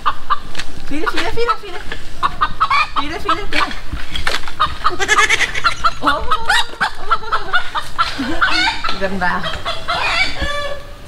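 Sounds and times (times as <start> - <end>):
chickens clucking and squawking: 0.0 - 11.0.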